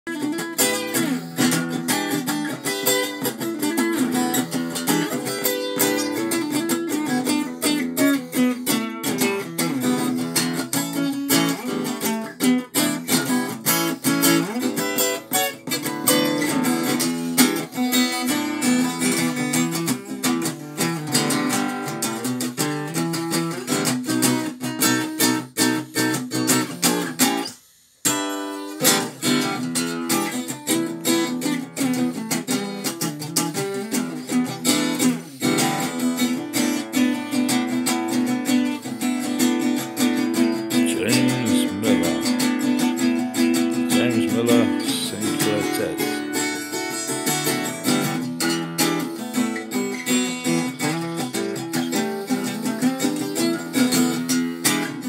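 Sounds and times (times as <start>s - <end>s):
acoustic guitar picking and strumming: 0.1s - 55.0s.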